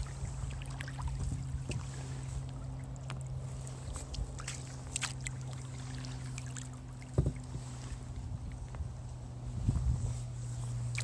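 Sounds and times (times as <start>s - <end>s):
paddle drips and splashes: 0.0s - 8.8s
steady low hum: 0.0s - 11.0s.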